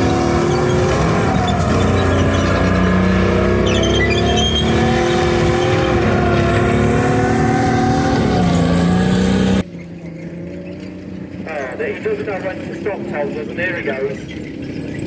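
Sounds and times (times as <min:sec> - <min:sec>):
heavy vehicle engine under load: 0:00.0 - 0:15.0.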